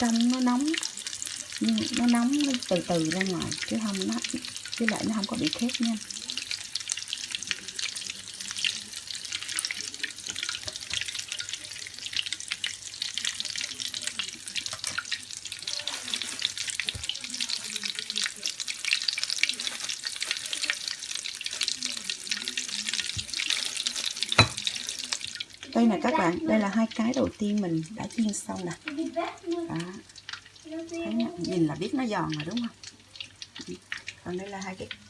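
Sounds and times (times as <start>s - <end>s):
food deep-frying in hot oil: 0.0s - 35.0s.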